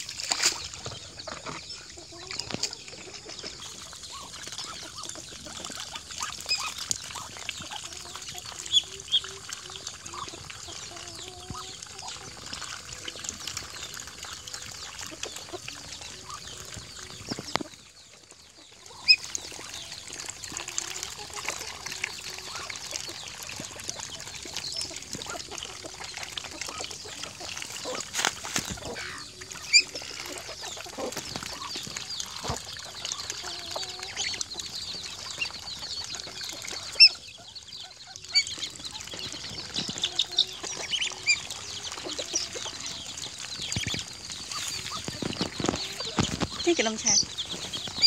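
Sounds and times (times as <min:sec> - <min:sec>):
chickens and ducks calling: 0:00.3 - 0:48.0.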